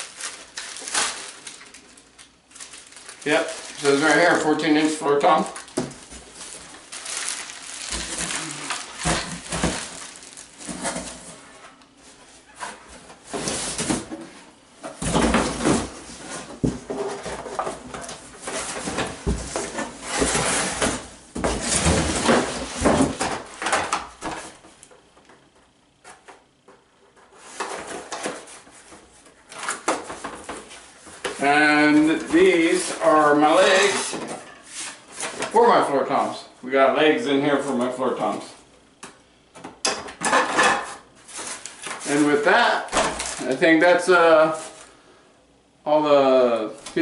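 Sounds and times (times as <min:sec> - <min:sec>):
plastic wrap and cardboard rustling: 0:00.0 - 0:24.8, 0:27.1 - 0:36.4, 0:40.1 - 0:45.0.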